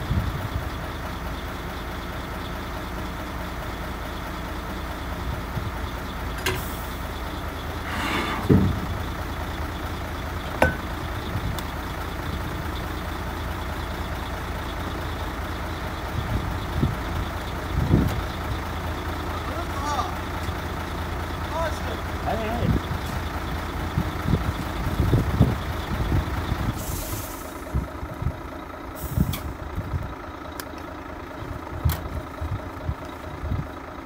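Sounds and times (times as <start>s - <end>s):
truck engine idling: 0.0s - 34.0s.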